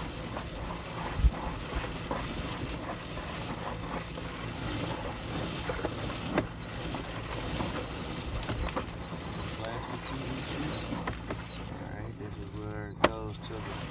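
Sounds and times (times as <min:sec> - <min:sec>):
camera scraping through pipe: 0:00.0 - 0:13.9.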